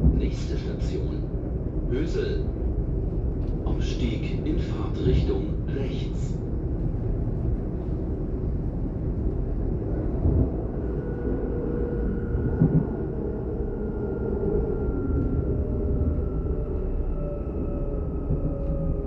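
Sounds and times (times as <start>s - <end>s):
train running low rumble: 0.0s - 19.0s.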